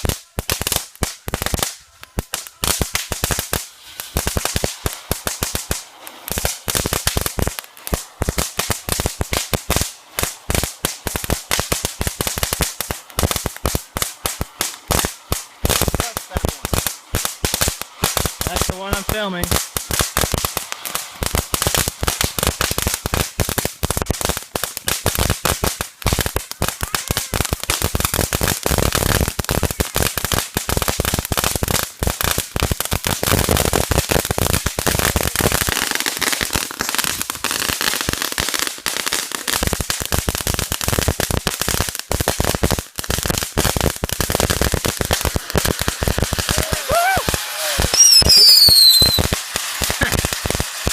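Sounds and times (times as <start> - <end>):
firecrackers popping rapidly: 0.0 - 50.9.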